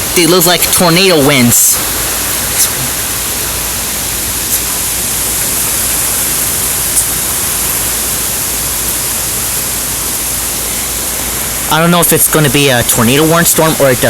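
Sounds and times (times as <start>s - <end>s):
rain: 0.0s - 14.0s.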